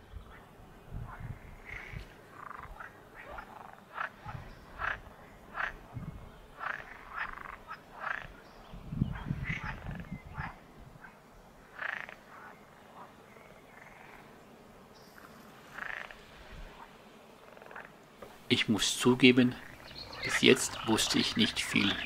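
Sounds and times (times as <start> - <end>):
frogs croaking: 0.0 - 14.4, 15.0 - 22.0.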